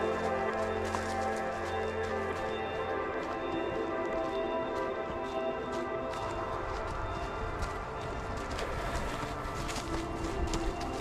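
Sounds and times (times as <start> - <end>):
background music of sustained chords: 0.0 - 11.0.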